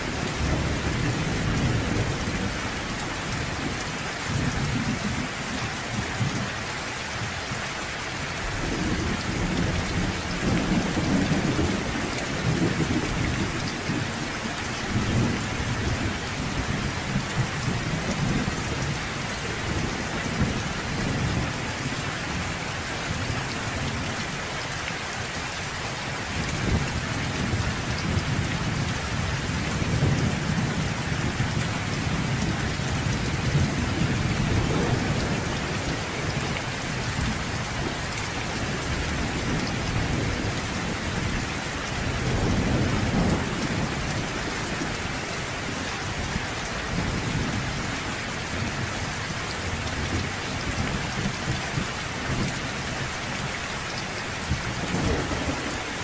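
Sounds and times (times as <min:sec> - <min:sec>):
low thunder rumbling: 0:00.0 - 0:06.5, 0:08.4 - 0:24.2, 0:26.4 - 0:48.9, 0:54.4 - 0:56.0
steady rain: 0:00.0 - 0:56.0.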